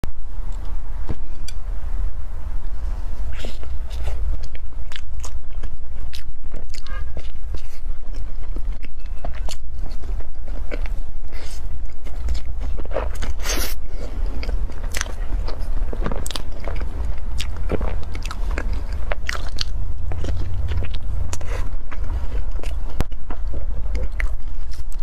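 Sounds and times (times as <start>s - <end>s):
low rumble: 0.1s - 25.0s
chewing soft bun: 3.2s - 25.0s.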